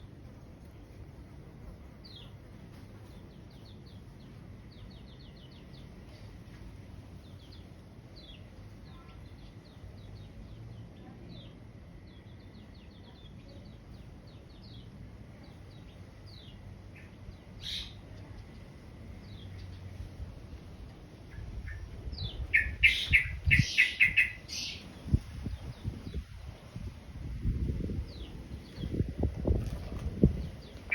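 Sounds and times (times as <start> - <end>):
low background hum: 0.0 - 30.9
birds chirping: 2.0 - 30.9.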